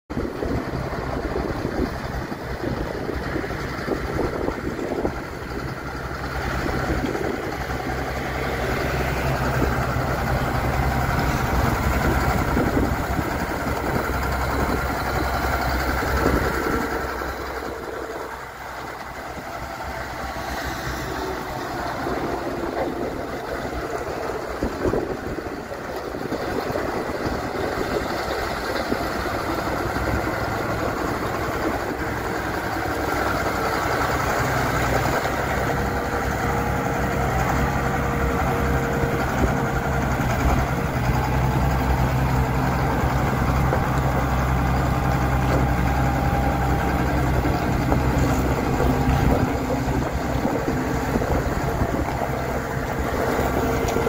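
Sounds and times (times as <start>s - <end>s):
tractor diesel engine running: 0.1s - 54.0s.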